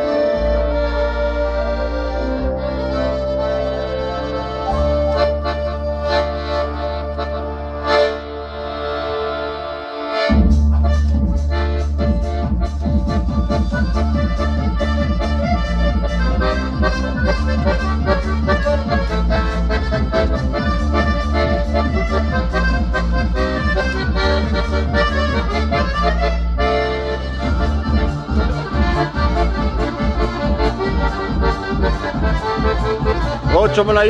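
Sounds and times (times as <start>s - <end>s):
accordion music: 0.0s - 34.0s.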